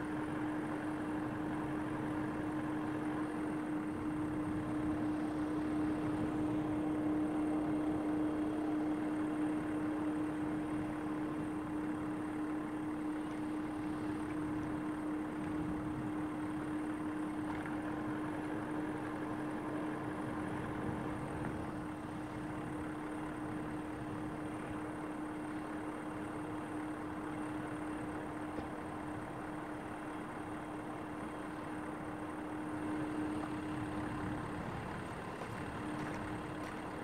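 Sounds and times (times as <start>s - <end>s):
constant pitched hum: 0.0s - 37.0s
diesel locomotive engine idling: 0.0s - 37.0s.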